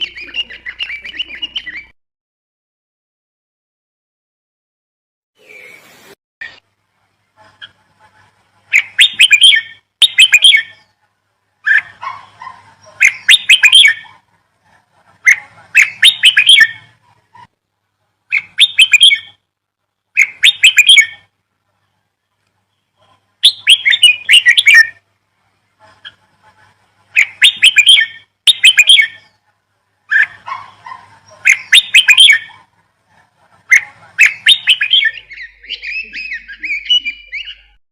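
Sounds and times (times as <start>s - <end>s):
birds chirping: 0.0s - 2.0s, 5.4s - 6.6s, 7.2s - 17.5s, 18.2s - 37.8s.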